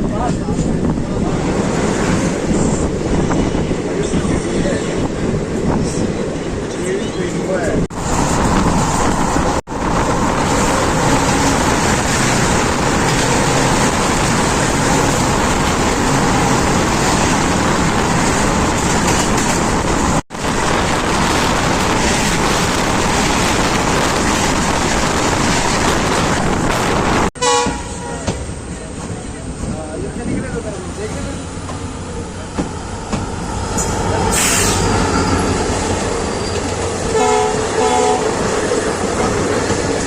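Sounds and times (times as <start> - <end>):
train wheels on rail: 0.0 - 40.0
wind rushing past train: 0.0 - 40.0.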